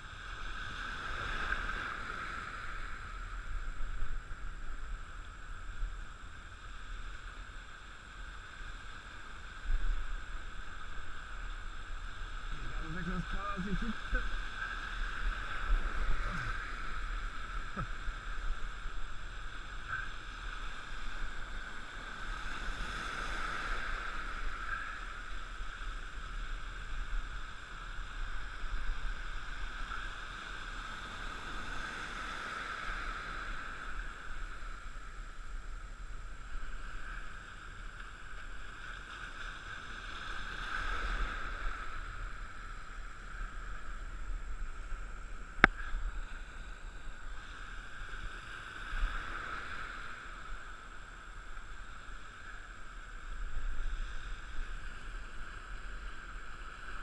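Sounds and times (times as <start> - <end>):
wind on microphone: 0.0 - 57.0.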